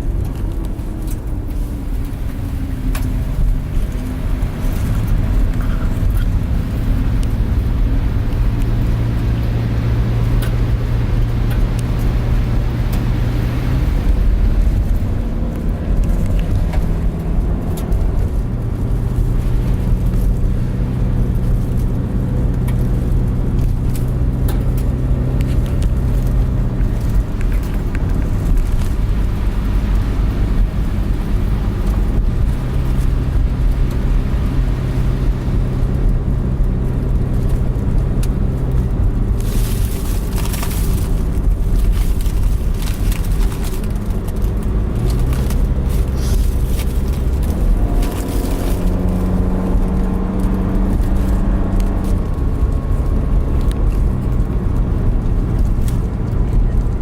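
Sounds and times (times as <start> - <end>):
road rumble: 0.0 - 57.0
van engine humming: 0.0 - 57.0.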